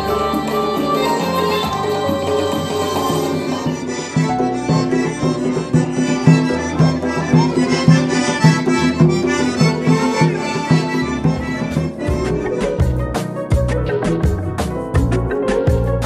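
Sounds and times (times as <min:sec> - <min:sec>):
accordion folk dance tune: 0:00.0 - 0:16.0.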